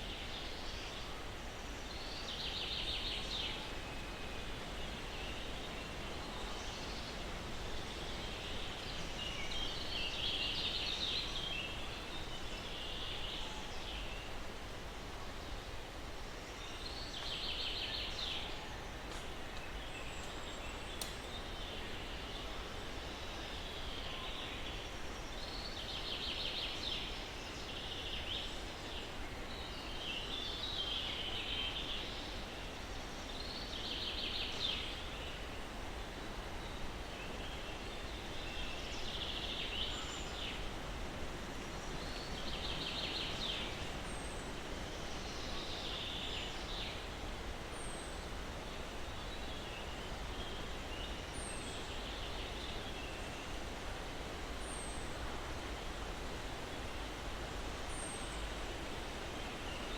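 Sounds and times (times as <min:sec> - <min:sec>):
steady breeze: 0:00.0 - 0:59.9.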